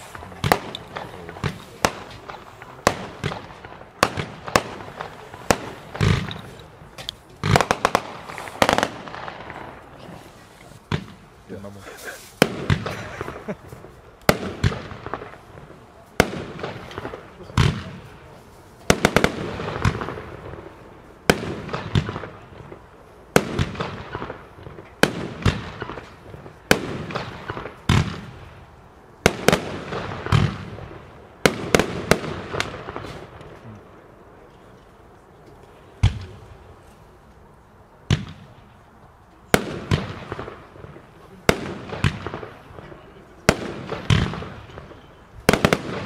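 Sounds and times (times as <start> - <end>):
fireworks banging and crackling: 0.0 - 46.0.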